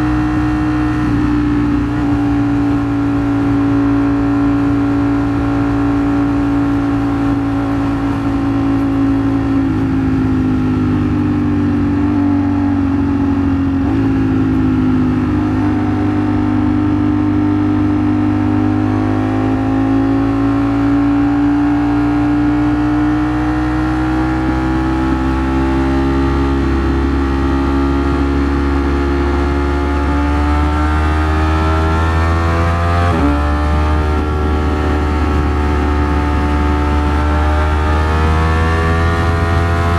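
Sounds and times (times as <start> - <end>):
low rumble and rushing noise: 0.0 - 39.9
motorcycle engine running: 0.0 - 39.9.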